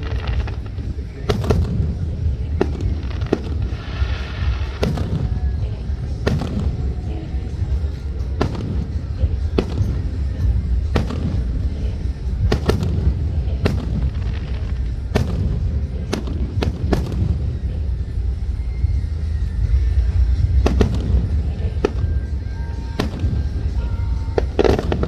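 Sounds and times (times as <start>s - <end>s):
continuous low rumble: 0.0s - 25.0s
fireworks bursting with sharp bangs: 0.0s - 25.0s.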